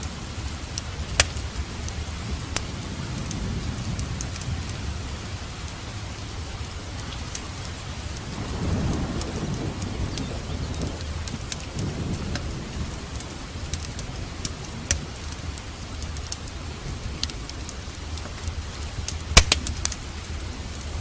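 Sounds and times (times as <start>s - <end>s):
steady rain: 0.0s - 21.0s
thunder rumble: 0.0s - 21.0s
wood fire crackling: 0.0s - 21.0s.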